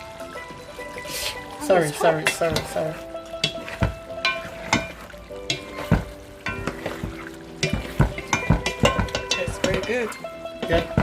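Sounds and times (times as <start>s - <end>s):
light sizzle: 0.0s - 11.0s
spoon clinking and scraping pot: 0.0s - 11.0s.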